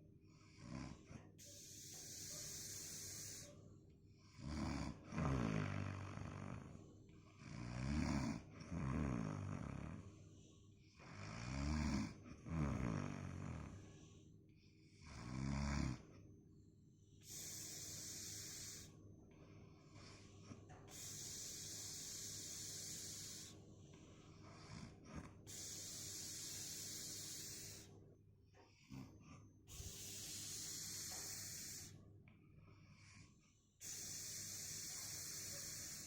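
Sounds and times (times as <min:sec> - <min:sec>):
quiet breathing: 0:00.0 - 0:36.0
person snoring softly: 0:00.3 - 0:03.5, 0:04.2 - 0:16.1, 0:17.2 - 0:27.9, 0:28.6 - 0:32.0, 0:32.8 - 0:36.0.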